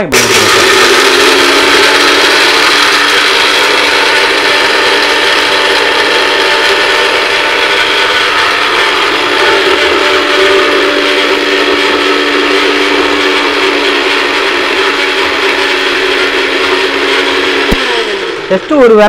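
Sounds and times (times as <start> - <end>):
mixer grinder motor whining: 0.0 - 19.0.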